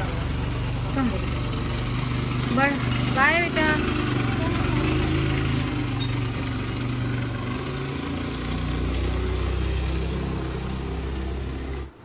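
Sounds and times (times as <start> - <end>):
motor scooter engine running: 0.0 - 11.9.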